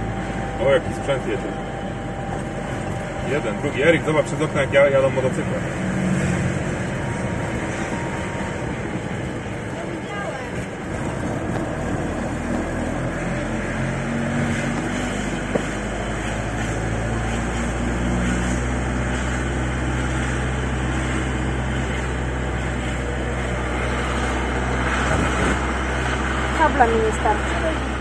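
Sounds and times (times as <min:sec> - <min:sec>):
van engine and road noise: 0:00.0 - 0:28.0.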